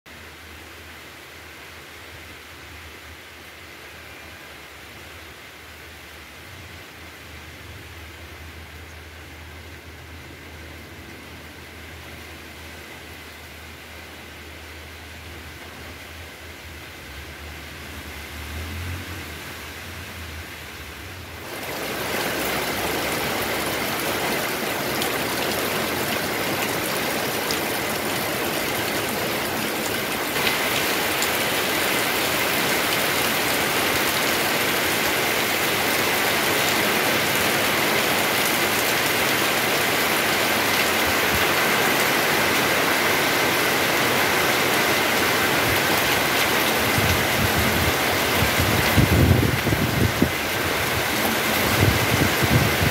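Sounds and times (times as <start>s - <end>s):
heavy rain pouring: 0.1s - 52.9s.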